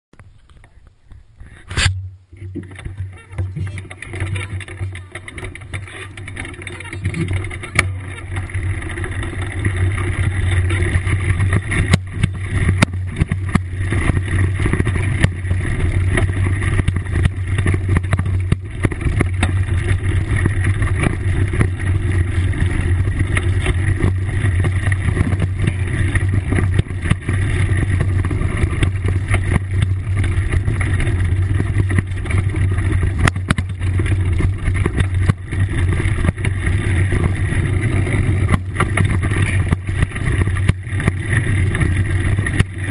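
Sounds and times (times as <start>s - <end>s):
wind and vibration rumble: 0.1s - 42.9s
bike knocking over bumps: 1.8s - 42.9s.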